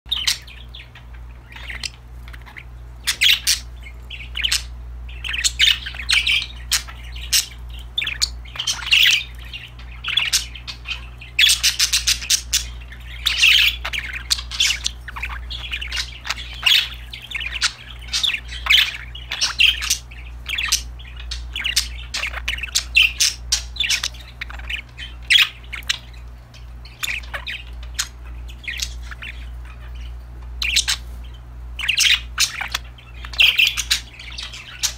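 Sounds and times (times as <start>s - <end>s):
budgerigars chirping and chattering: 0.1s - 34.9s
steady low hum: 0.1s - 34.9s.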